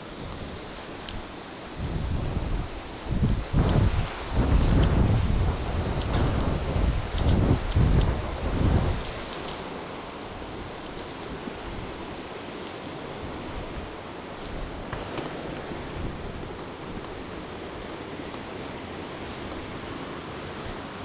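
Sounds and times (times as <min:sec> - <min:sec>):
rush of flowing water: 0:00.0 - 0:21.0
wind buffeting microphone: 0:00.1 - 0:12.2, 0:13.1 - 0:21.0.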